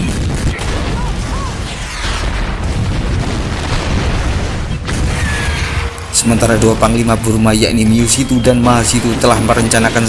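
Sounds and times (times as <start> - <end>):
cannon fire: 0.0 - 7.3, 8.2 - 10.0
explosions: 0.0 - 10.0.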